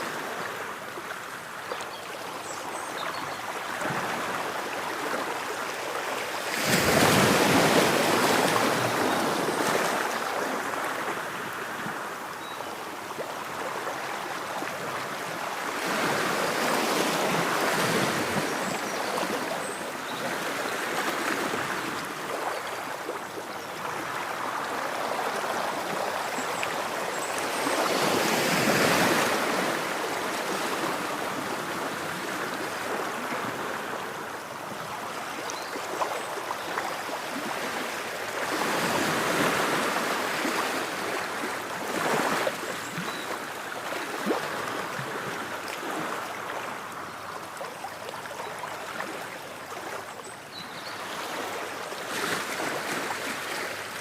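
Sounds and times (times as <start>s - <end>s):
ocean waves washing ashore: 0.0s - 50.0s.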